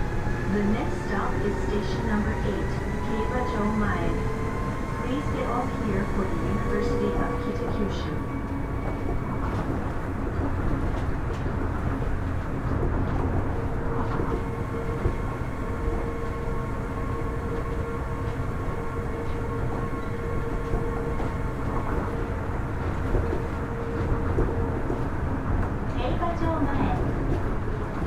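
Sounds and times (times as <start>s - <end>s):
monorail car rumbling: 0.0s - 28.0s.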